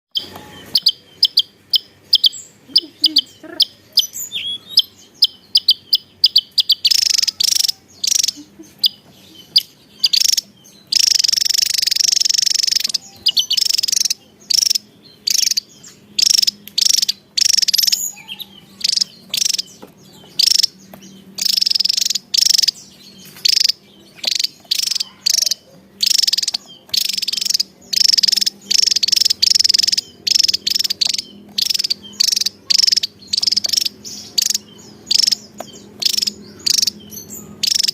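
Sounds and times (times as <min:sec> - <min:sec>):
bird trill: 0:00.1 - 0:37.9
bird singing high sharp notes: 0:00.2 - 0:37.9.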